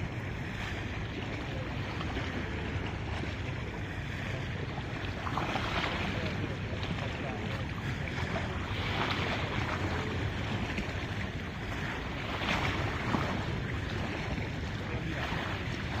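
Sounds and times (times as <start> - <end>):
ocean waves washing: 0.0 - 16.0
wind rumbling on microphone: 0.0 - 16.0.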